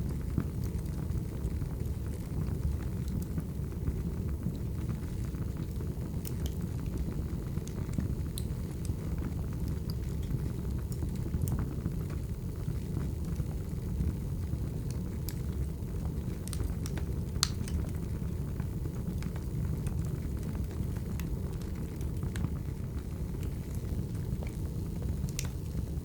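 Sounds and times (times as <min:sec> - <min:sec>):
firewood burning and crackling: 0:00.0 - 0:26.0.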